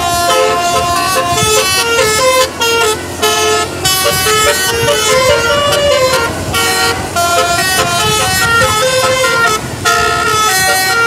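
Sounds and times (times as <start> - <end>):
musical air horn tune: 0.0 - 11.0.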